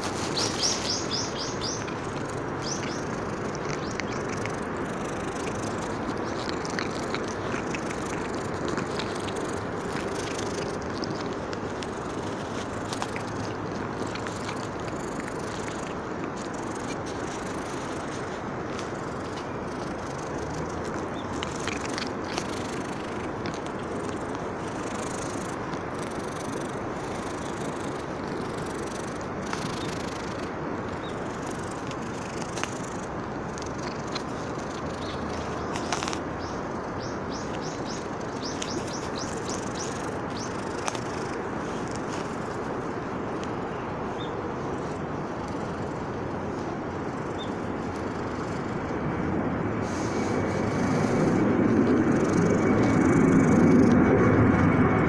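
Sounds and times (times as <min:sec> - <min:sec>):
outdoor background noise: 0:00.0 - 0:55.0.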